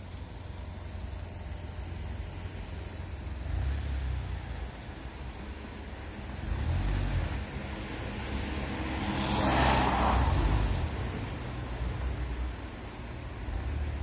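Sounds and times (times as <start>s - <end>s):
van driving past: 0.0s - 14.0s.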